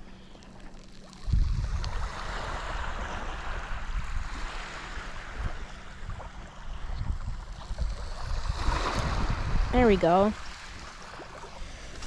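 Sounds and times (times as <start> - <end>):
wind gusting on microphone: 1.2 - 11.2.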